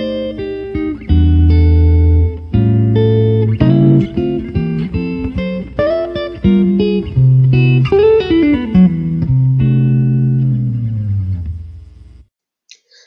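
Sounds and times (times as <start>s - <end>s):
plucked instrumental music: 0.0s - 11.7s.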